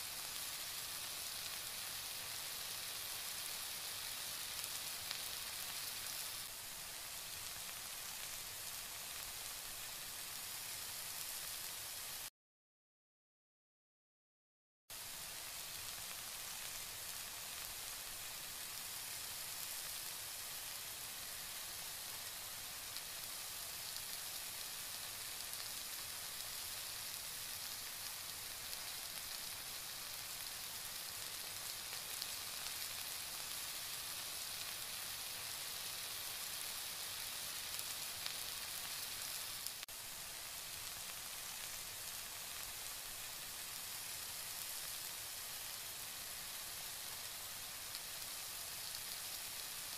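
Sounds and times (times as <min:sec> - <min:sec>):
curry bubbling and sizzling: 0:00.0 - 0:12.3, 0:14.9 - 0:49.9.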